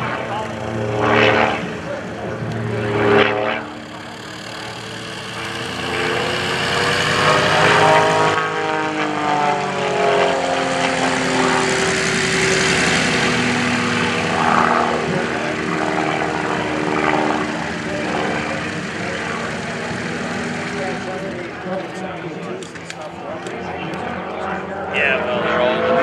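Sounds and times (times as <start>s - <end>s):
propeller plane engine overhead: 0.0s - 26.0s.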